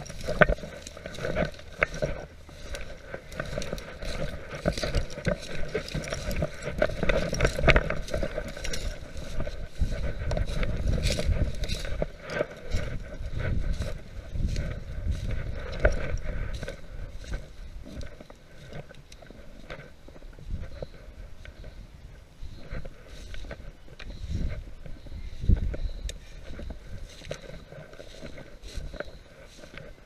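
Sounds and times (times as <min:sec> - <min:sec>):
footsteps crunching through dry leaves: 0:00.0 - 0:30.0.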